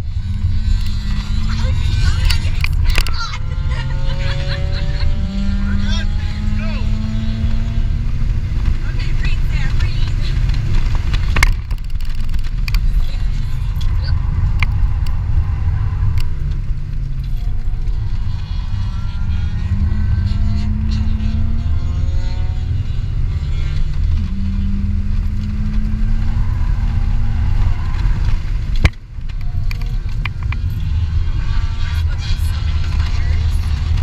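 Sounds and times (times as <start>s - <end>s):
car engine accelerating: 0.0s - 34.0s
road and wind rumble: 0.0s - 34.0s.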